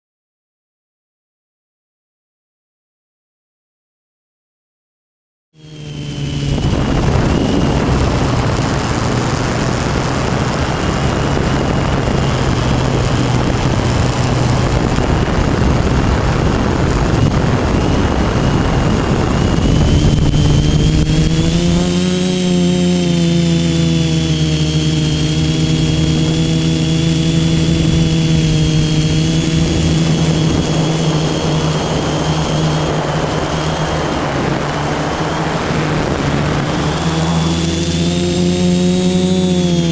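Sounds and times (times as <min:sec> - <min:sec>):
drone motors buzzing: 0:05.6 - 0:39.9.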